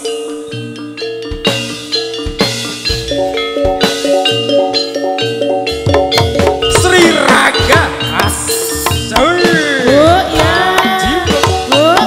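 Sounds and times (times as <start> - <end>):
metallophone notes ringing: 0.0 - 12.0.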